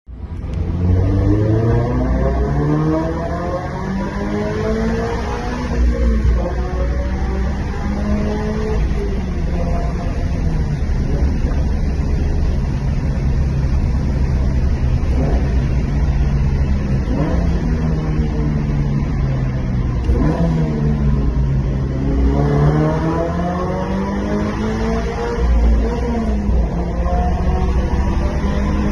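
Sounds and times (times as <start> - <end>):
car engine echoing in a tunnel: 0.1 - 28.9.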